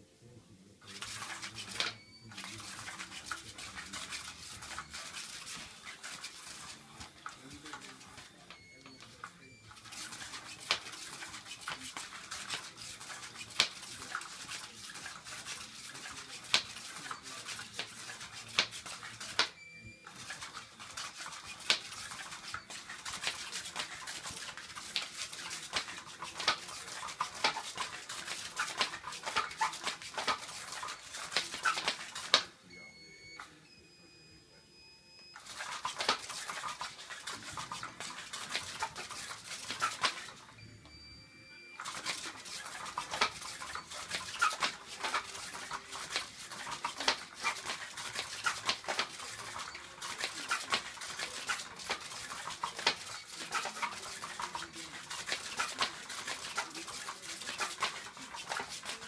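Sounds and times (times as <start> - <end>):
toy motor whirring: 0.8 - 32.5, 35.4 - 40.4, 41.8 - 59.0
wand scraping and ticking: 0.9 - 19.5, 20.1 - 32.4, 35.4 - 40.4, 41.8 - 59.0.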